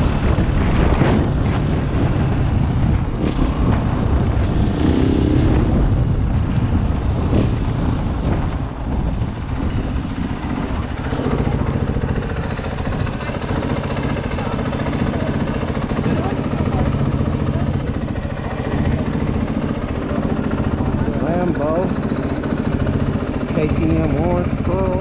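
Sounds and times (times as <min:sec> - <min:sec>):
dirt bike engine running: 0:00.0 - 0:25.0
wind noise on microphone: 0:00.0 - 0:25.0.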